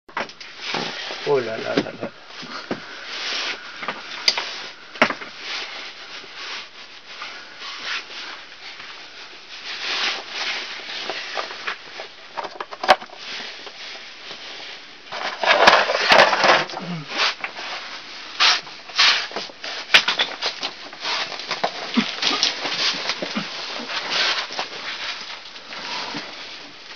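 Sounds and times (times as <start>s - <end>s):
plastic bags rustling: 0.4s - 26.9s.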